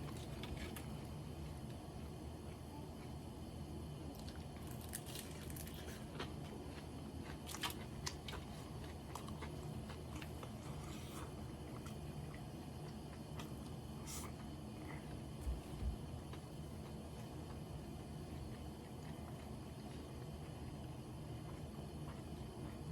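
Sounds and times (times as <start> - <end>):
steady low hum: 0.0 - 22.9
person chewing food: 4.1 - 22.9.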